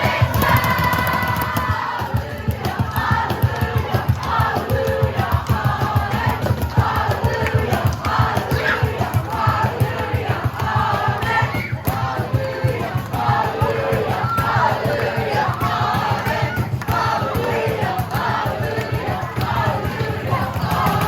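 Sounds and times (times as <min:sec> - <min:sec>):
fast steady beat: 0:00.0 - 0:21.0
group singing worship song: 0:00.0 - 0:21.0.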